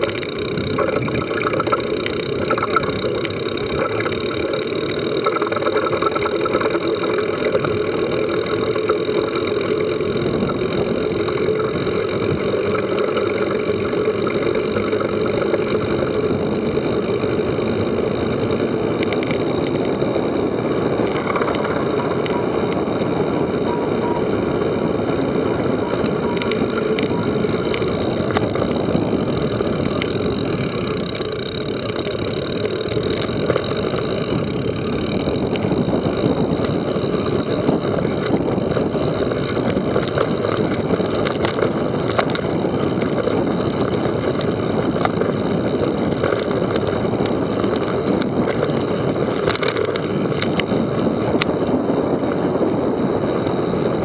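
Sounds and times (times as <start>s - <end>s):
bike knocking and rattling: 0.0s - 54.0s
wind and tyre noise: 0.0s - 54.0s.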